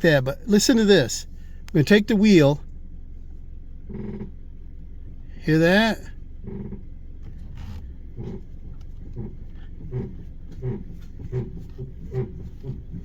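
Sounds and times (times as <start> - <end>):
car suspension creaking: 0.0 - 13.0.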